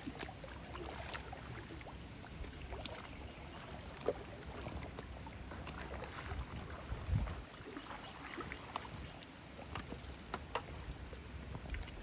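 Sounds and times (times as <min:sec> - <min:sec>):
paddle splashes and drips: 0:00.0 - 0:12.0.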